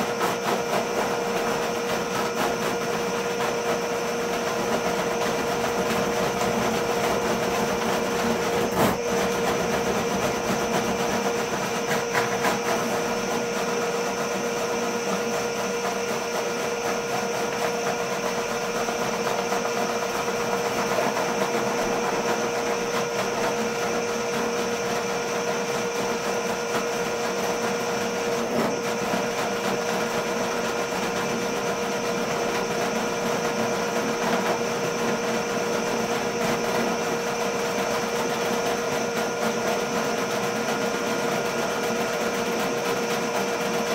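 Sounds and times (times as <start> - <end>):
drain cleaner motor humming: 0.0 - 43.9.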